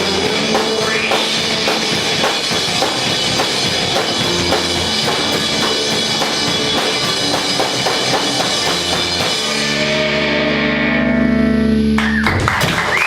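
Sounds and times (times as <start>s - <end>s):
high wavering whine: 0.0s - 12.0s
distorted electric guitar: 0.0s - 12.6s
drums: 0.0s - 13.0s.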